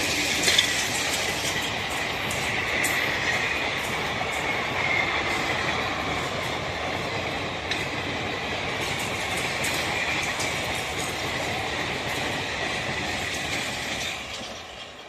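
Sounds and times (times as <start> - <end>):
train wheels rushing on rails: 0.0 - 15.0
wheels clicking over rail joints: 0.0 - 15.0.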